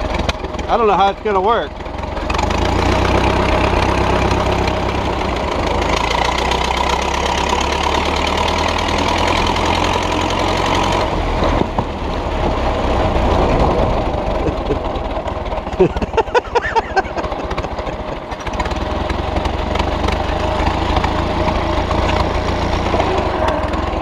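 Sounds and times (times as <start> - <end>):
old tractor engine running: 0.0 - 24.0.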